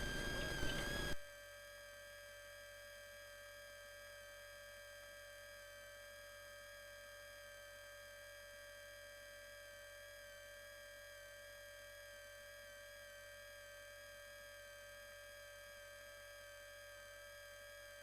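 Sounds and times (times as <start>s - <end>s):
faint electronic whine: 0.0s - 18.0s.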